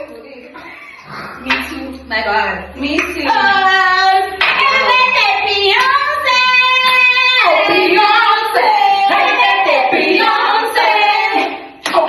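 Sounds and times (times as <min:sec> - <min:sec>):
high female voices singing: 0:00.0 - 0:12.0.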